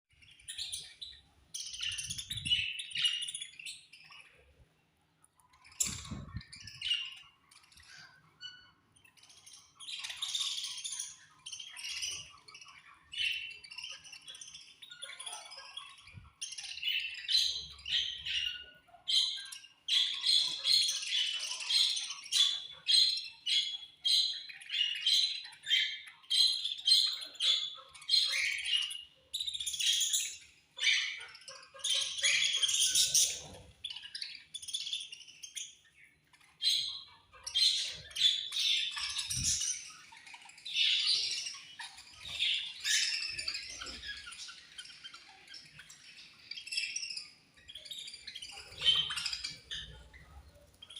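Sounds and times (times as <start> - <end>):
budgerigars chirping and chattering: 0.1 - 50.9.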